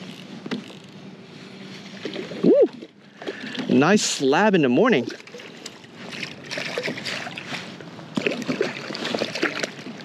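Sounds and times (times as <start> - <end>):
light water sounds: 1.3 - 10.0.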